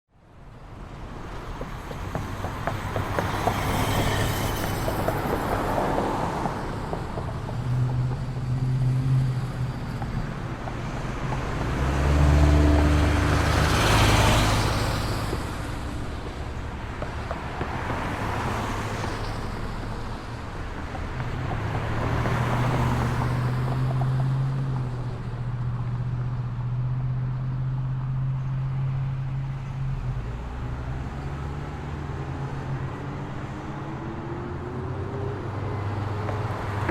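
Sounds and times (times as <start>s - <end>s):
cars passing: 0.3s - 36.9s.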